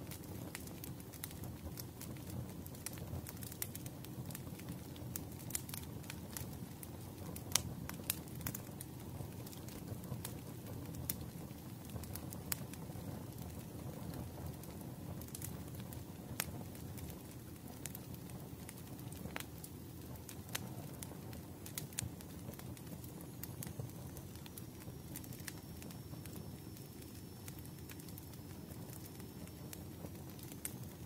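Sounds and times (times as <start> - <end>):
fire crackling and popping: 0.0 - 31.0.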